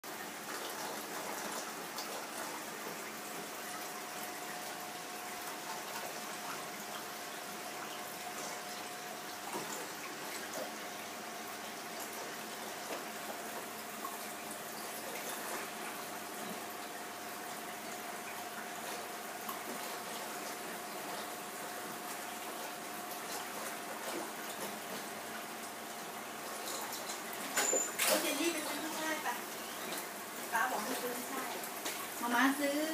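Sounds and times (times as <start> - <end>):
aquarium water circulating: 0.0 - 32.9.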